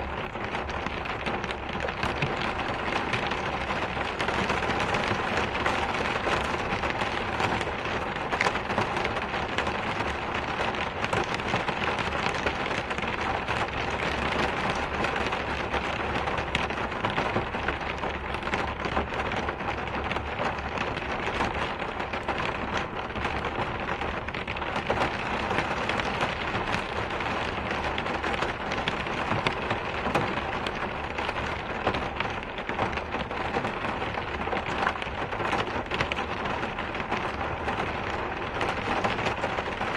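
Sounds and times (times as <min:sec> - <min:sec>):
raindrops ticking: 0:00.0 - 0:39.9
steady rain hiss: 0:00.0 - 0:39.9.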